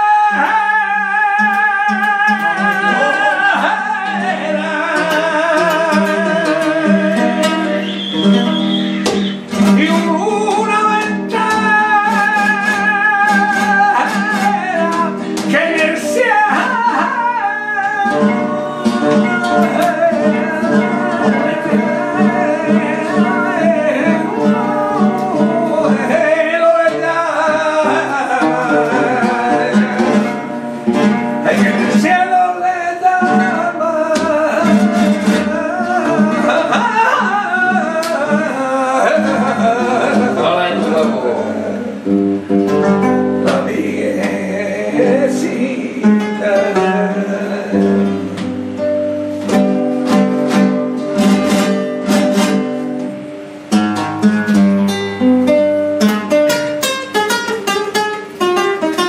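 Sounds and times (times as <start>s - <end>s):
flamenco guitar plucking and strumming: 0.0s - 59.0s
man singing flamenco: 0.0s - 59.0s.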